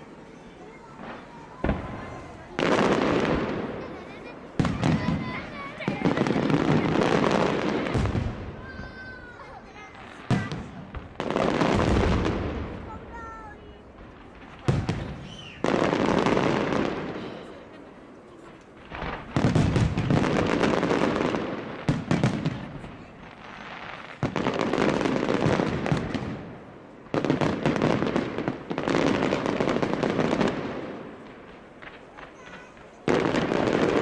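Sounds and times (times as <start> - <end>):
fireworks bursting with bangs: 0.0 - 34.0
fireworks crackling and rumble: 0.0 - 34.0.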